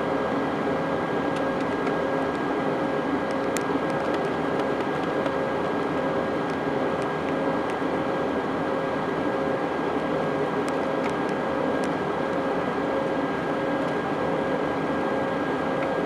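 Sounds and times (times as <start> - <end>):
engine and airflow rush: 0.0 - 16.0.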